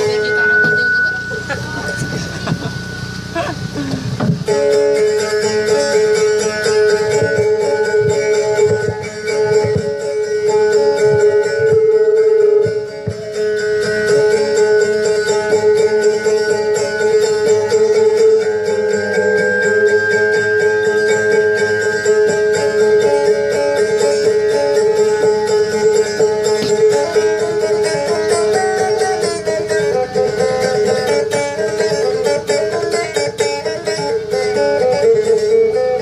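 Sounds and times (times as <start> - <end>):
plucked boat lute melody: 0.0 - 36.0.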